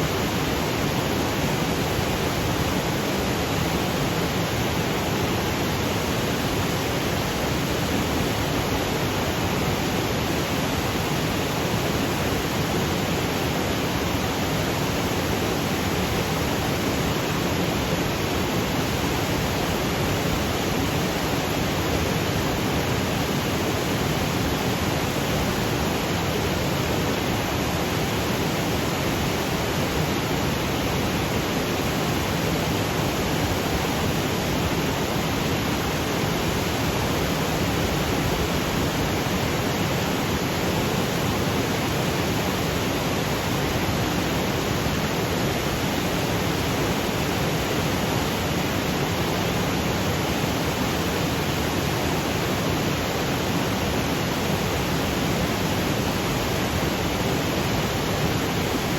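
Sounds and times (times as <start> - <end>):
waterfall rushing over boulders: 0.0 - 58.9.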